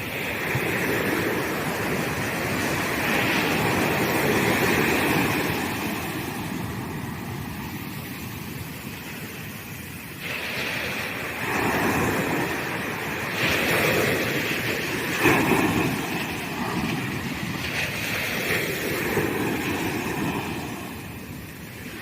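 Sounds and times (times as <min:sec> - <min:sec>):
waves breaking on beach: 0:00.0 - 0:22.0.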